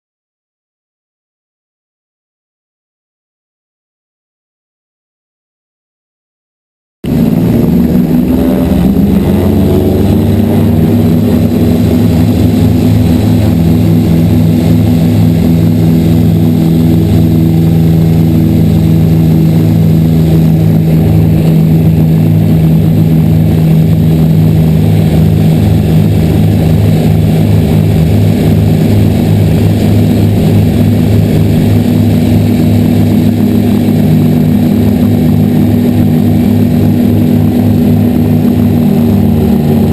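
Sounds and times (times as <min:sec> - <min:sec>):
aircraft piston engines running: 0:07.1 - 0:39.9.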